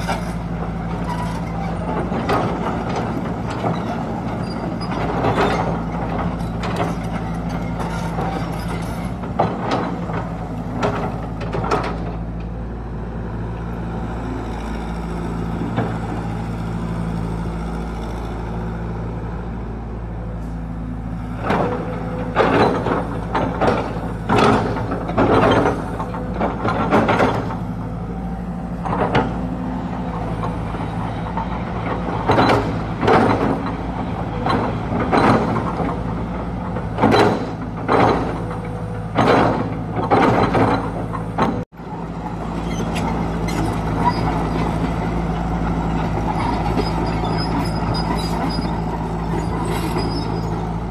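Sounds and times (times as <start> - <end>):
metallic clanks and squeaks: 0.0 - 12.5, 21.4 - 28.2, 28.8 - 41.7, 42.3 - 50.9
excavator diesel engine running: 0.0 - 50.9.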